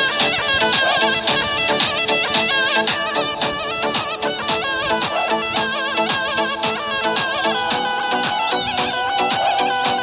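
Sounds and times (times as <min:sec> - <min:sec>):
wavering folk melody: 0:00.0 - 0:10.0.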